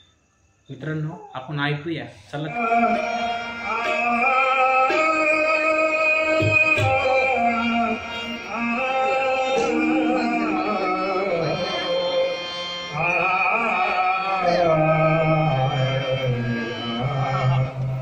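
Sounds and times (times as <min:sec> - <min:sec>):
people singing: 0:02.4 - 0:18.0
devotional song with gliding melody: 0:02.5 - 0:18.0.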